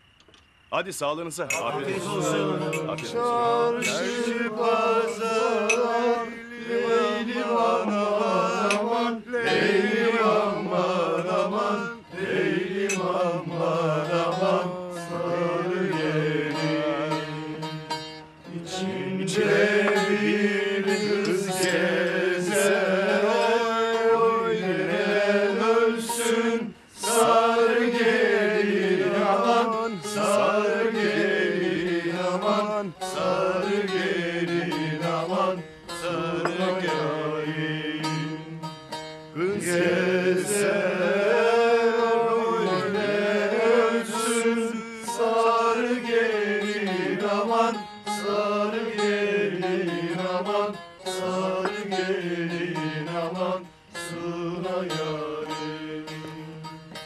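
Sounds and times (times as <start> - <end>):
steady drone: 0.8 - 57.0
ornamented folk melody: 1.5 - 57.0.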